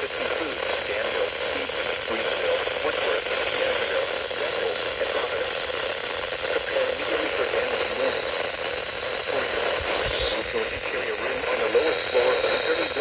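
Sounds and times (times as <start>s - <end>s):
faint voice: 0.0s - 13.0s
radio static hiss: 0.0s - 13.0s.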